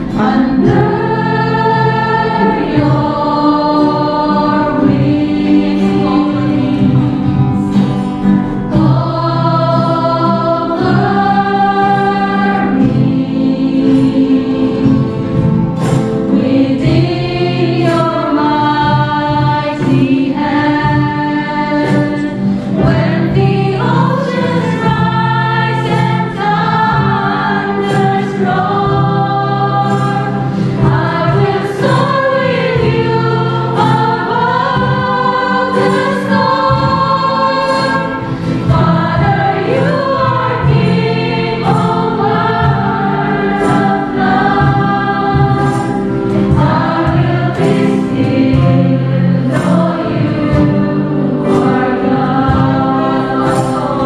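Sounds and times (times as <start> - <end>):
band with steady beat: 0.0 - 54.0
group singing in harmony: 0.0 - 54.0.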